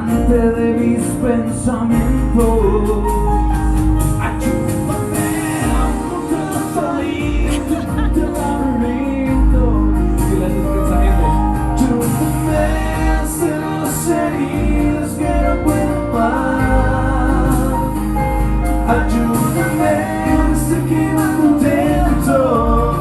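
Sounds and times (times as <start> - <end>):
pop ballad band music: 0.0 - 23.0.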